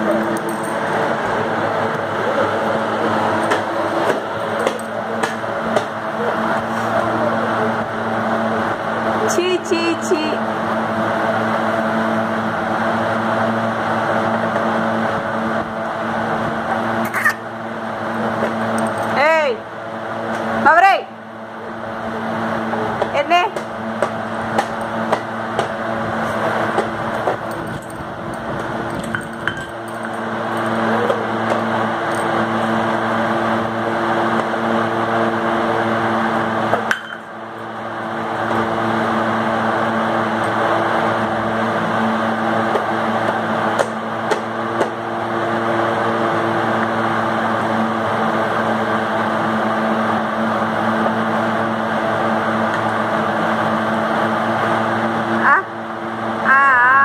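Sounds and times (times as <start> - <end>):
loud mechanical hum: 0.0 - 57.0.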